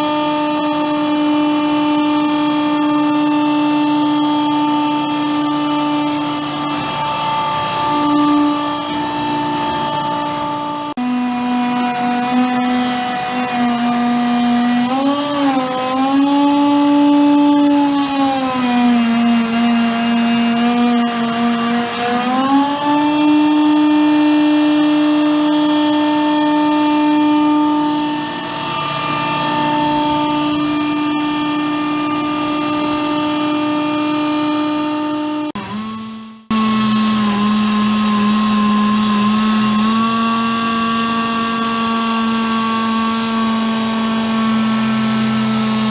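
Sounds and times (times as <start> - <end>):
machining rig whining: 0.0 - 45.9.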